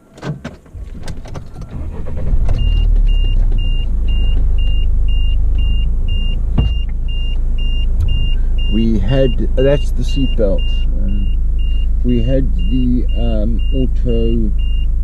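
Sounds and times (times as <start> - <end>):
car engine starting and running: 0.0 - 15.0
seatbelt warning chime beeping: 1.6 - 15.0.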